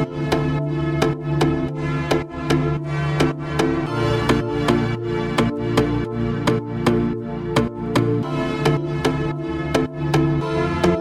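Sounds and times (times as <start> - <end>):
electronic music with quick beat: 0.0 - 11.0.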